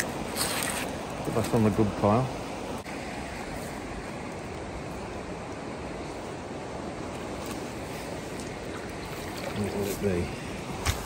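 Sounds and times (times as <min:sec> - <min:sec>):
steady rushing wind: 0:00.0 - 0:11.0.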